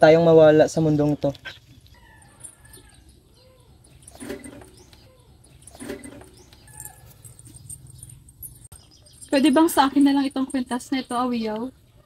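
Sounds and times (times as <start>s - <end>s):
faint high bird chirps: 1.5s - 12.0s.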